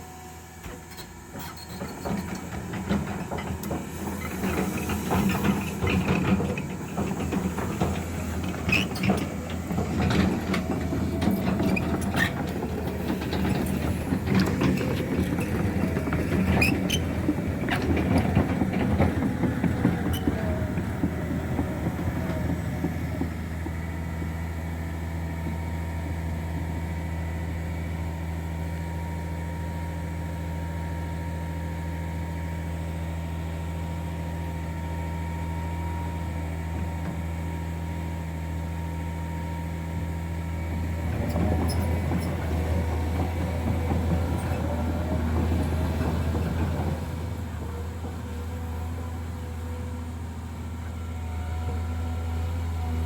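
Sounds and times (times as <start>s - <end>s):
heavy diesel machinery droning: 0.0s - 53.0s.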